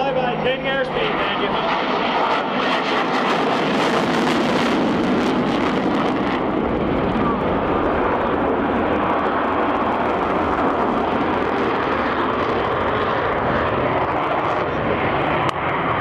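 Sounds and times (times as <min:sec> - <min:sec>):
jet engine flying past: 0:00.0 - 0:16.0.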